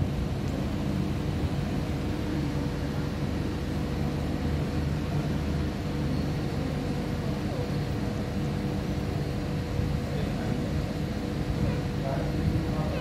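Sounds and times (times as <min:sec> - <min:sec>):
faint constant tone: 0:00.0 - 0:13.0
low mechanical hum: 0:00.0 - 0:13.0.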